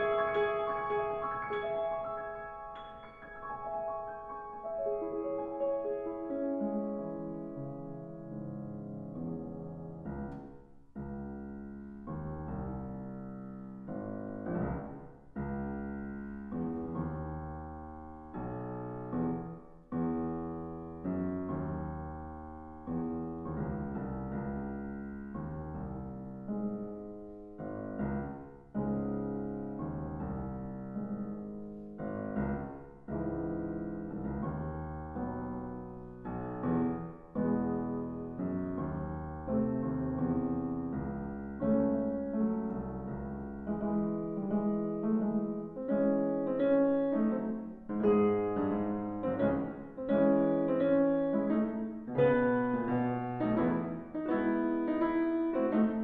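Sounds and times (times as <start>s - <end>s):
grand piano chords: 0.0s - 56.0s.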